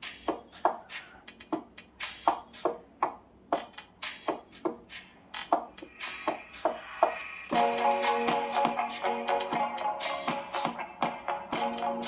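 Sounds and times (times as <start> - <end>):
music with percussive beat on phone speaker: 0.0 - 12.0.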